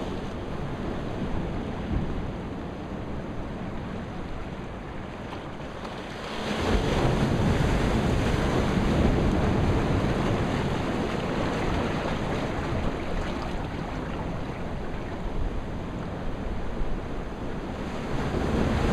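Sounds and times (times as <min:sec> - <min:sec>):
surf against rocky shore: 0:00.0 - 0:18.9
wind buffeting microphone: 0:00.0 - 0:18.9.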